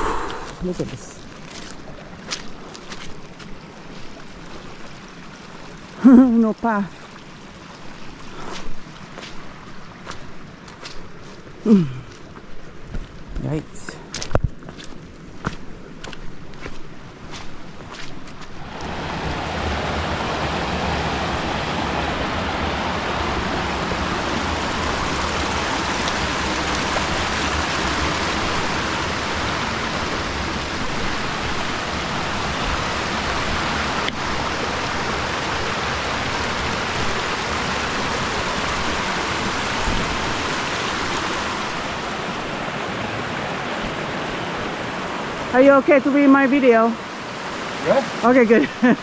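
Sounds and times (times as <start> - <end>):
mountain stream rushing: 0.0 - 49.0.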